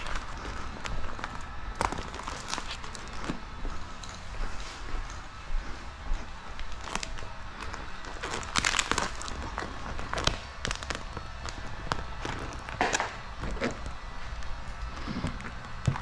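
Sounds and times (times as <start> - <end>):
plastic film crackling: 0.0 - 4.2, 6.2 - 16.0.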